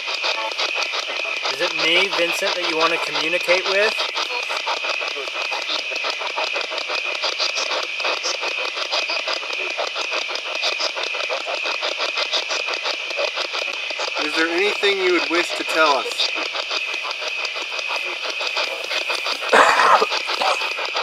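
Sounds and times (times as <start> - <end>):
radio static chopping: 0.0 - 21.0
radio voice fragments: 0.2 - 11.5, 13.3 - 21.0.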